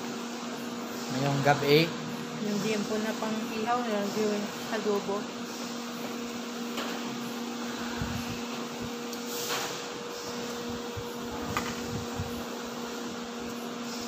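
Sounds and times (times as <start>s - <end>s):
machine whirring and humming: 0.0s - 14.0s.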